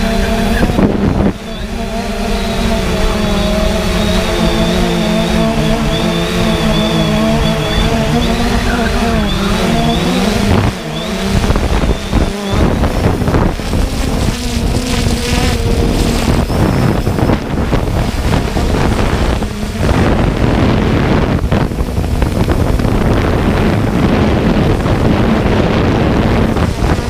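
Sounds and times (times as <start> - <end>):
drone propellers humming: 0.0 - 27.0
wind buffeting microphone: 0.0 - 27.0.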